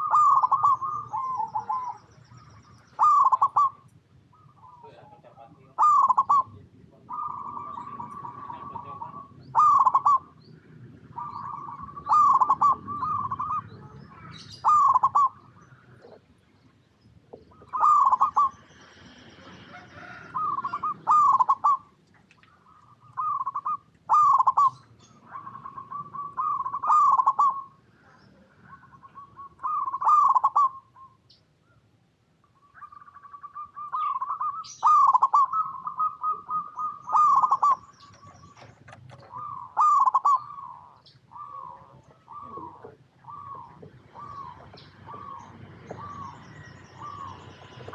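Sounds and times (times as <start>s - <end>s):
dove cooing song: 0.0s - 16.4s, 17.1s - 31.8s, 32.5s - 47.9s.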